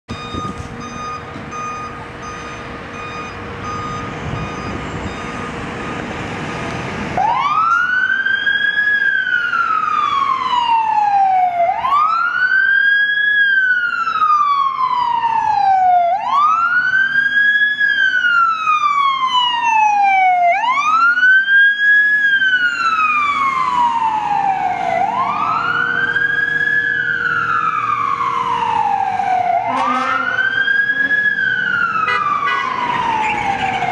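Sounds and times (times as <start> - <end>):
engine and traffic noise: 0.1 - 33.9
fire truck siren wailing: 0.1 - 33.9.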